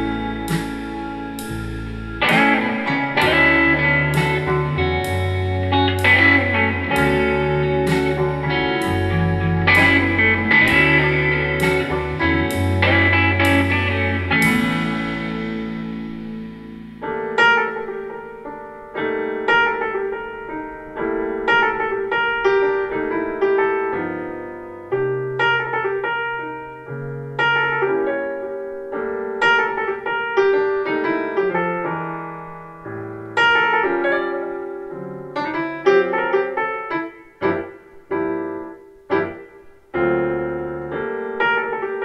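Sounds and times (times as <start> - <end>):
piano jazz through speakers: 0.0 - 42.0.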